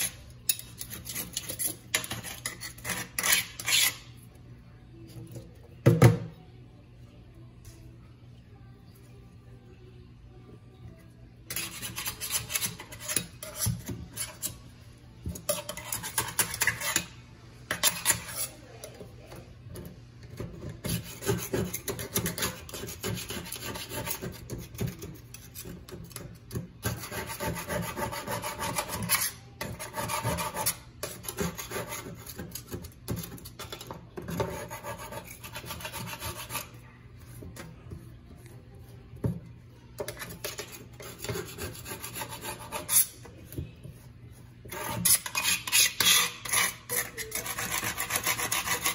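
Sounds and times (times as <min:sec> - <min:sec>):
scraper rasping on steel sink: 0:00.0 - 0:04.1, 0:11.5 - 0:14.6, 0:15.3 - 0:19.0, 0:19.7 - 0:39.0, 0:40.0 - 0:48.9.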